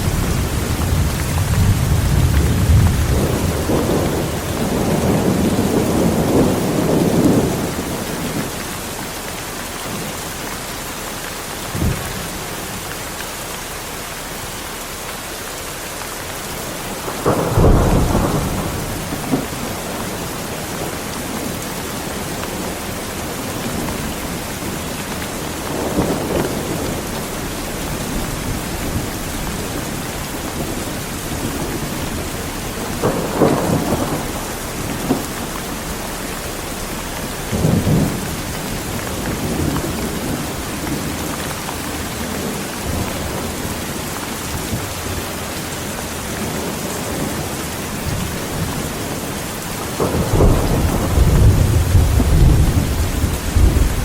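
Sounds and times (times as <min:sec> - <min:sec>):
thunder rumbling: 0:00.0 - 0:10.4, 0:16.8 - 0:54.0
heavy rain falling: 0:00.0 - 0:54.0.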